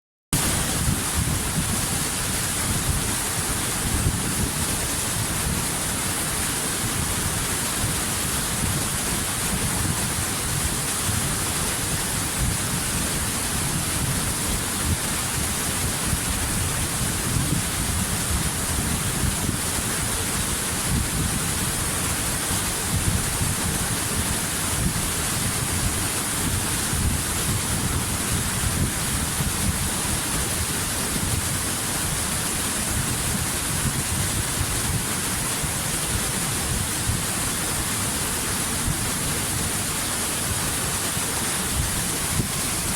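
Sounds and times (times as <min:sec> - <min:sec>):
waterfall rushing: 0:00.4 - 0:42.9.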